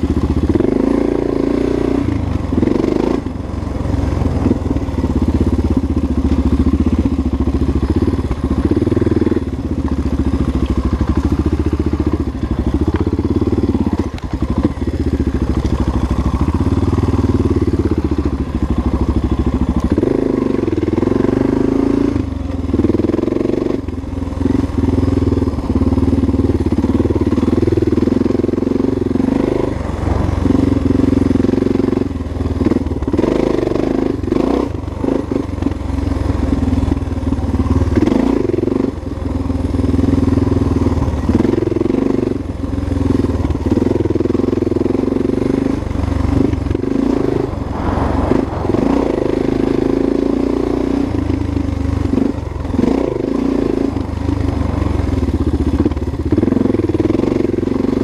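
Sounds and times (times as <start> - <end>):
motorcycle engine on dirt trail: 0.0 - 58.0.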